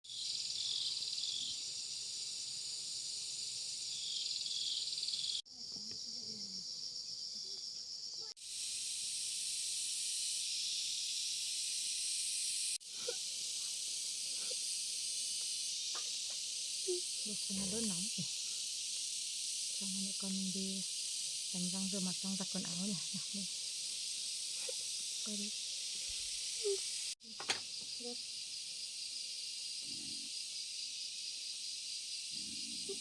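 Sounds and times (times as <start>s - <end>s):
insect chorus buzzing: 0.0s - 33.0s.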